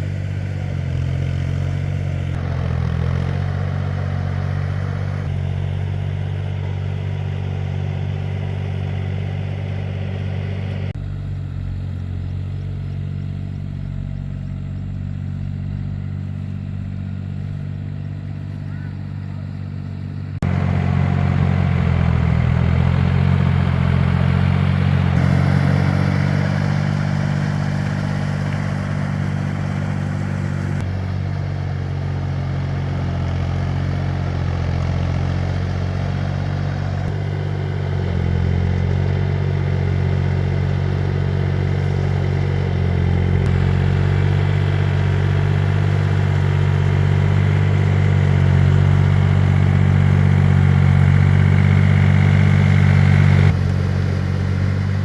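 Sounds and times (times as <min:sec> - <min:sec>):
tiller engine running: 0:00.0 - 0:55.0.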